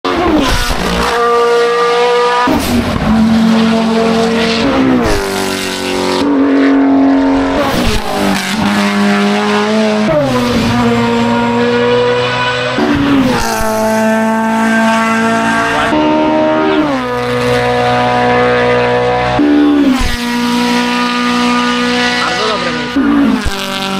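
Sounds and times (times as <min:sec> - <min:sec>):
racing car engines at high revs: 0:00.0 - 0:23.9.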